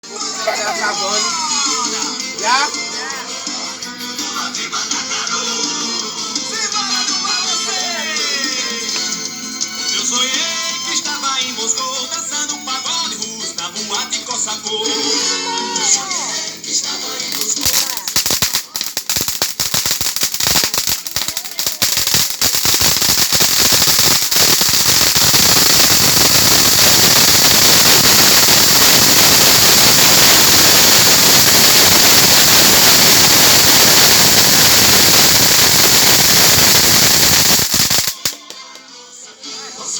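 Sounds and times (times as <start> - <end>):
firecrackers crackling: 6.6 - 38.8.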